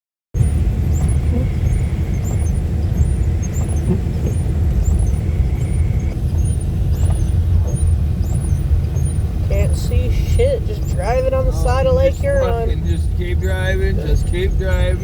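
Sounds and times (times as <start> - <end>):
car interior road noise: 0.4 - 15.0.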